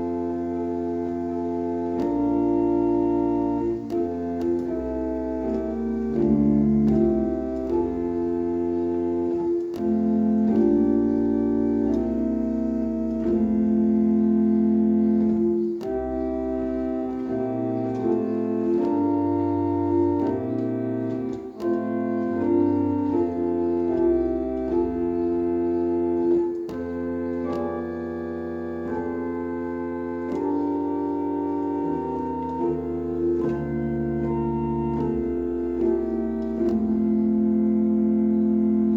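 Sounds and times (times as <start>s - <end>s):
keyboard playing hymn chords: 0.0s - 38.9s.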